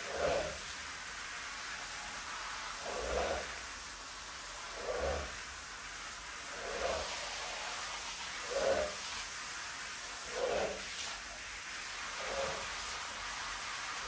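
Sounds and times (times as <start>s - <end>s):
squeegee pushing water across rug: 0.0s - 14.0s
steady hiss: 0.0s - 14.0s.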